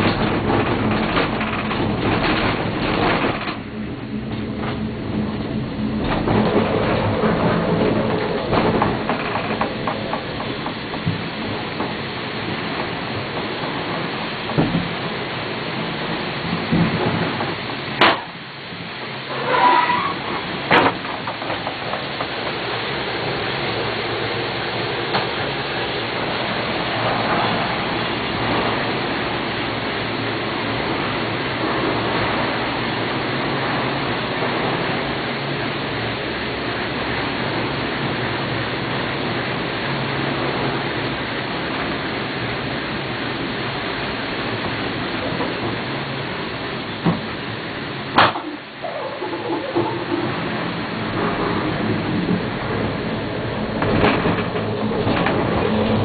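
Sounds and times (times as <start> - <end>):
gondola cabin rumbling along cable: 0.0 - 56.0.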